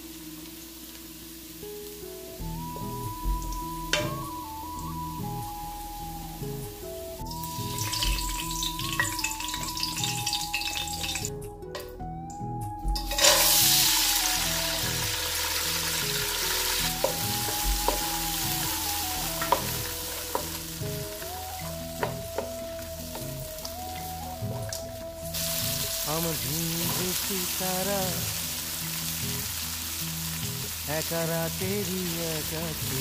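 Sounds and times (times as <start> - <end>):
onions frying in oil: 0.0 - 11.4, 12.9 - 33.0.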